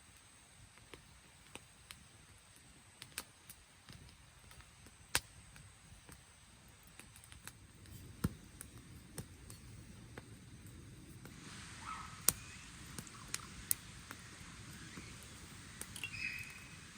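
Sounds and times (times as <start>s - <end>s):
sharp clicks and snaps: 0.7s - 11.4s, 12.2s - 16.6s.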